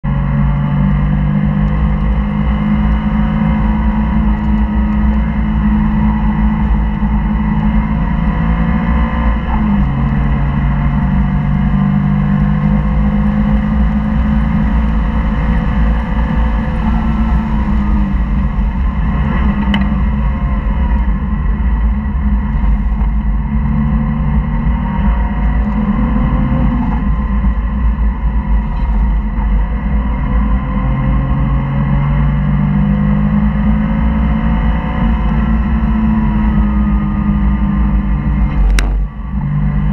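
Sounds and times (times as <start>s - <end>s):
car engine pulling hard: 0.0s - 39.9s
road and wind rumble: 0.0s - 39.9s.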